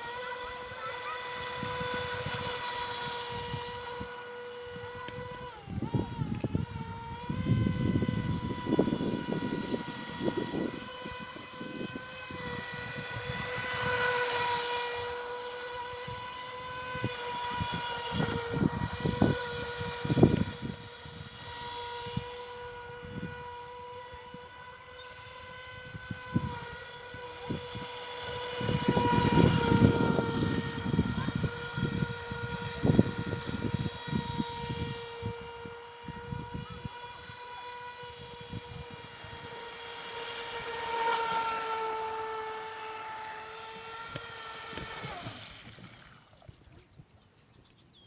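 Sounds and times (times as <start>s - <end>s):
boat electric motor whine: 0.0s - 46.9s.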